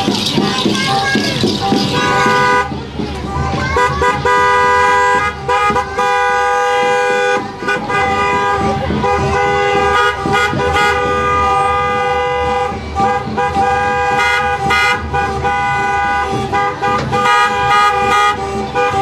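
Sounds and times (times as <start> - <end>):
vehicle horns blasting: 0.0 - 19.0.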